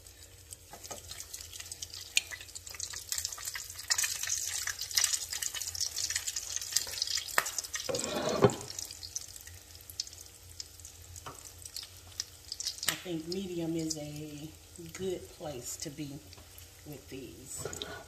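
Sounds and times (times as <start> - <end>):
patties sizzling in hot oil: 0.0 - 18.0.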